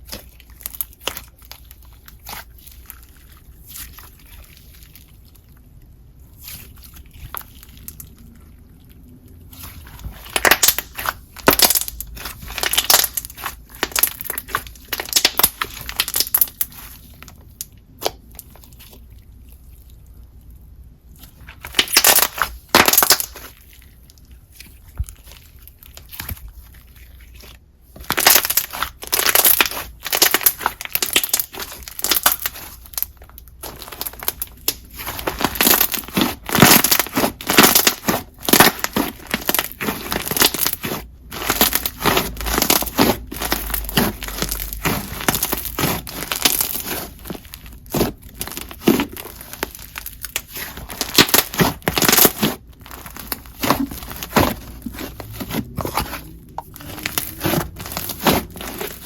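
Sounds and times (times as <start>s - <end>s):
slime squished by hand: 0.0s - 59.0s.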